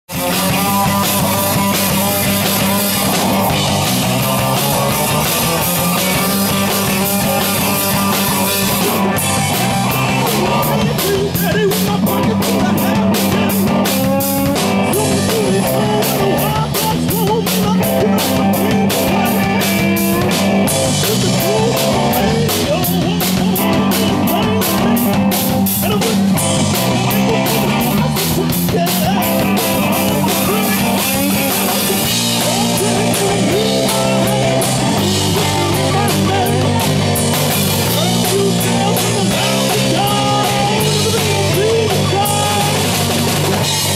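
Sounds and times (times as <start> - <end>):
drum kit beat: 0.0 - 43.9
electric guitars: 0.1 - 43.9.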